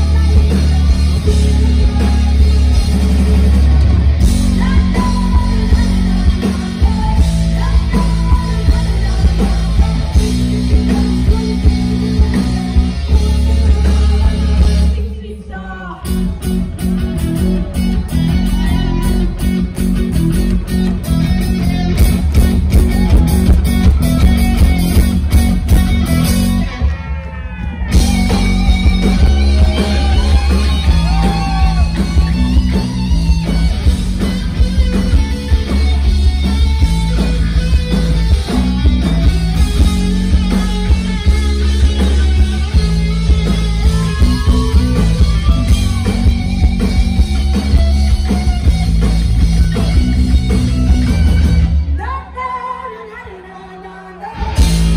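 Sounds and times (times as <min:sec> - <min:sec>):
distorted electric guitar lead: 0:00.0 - 0:15.2, 0:16.0 - 0:52.3, 0:54.2 - 0:54.9
bass guitar: 0:00.0 - 0:52.6, 0:54.2 - 0:54.9
drums: 0:00.0 - 0:54.9.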